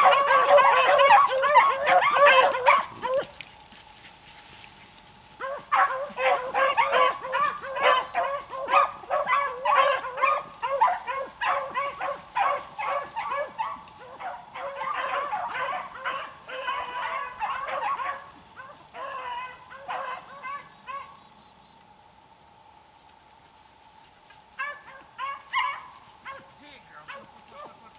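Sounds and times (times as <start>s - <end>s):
hounds baying: 0.0s - 21.2s, 24.3s - 27.9s.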